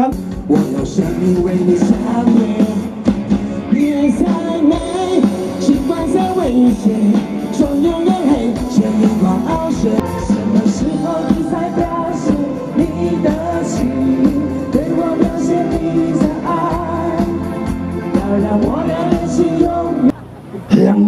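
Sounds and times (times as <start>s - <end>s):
man and woman singing: 0.0s - 3.0s, 3.7s - 20.2s
live pop band playing: 0.0s - 20.9s.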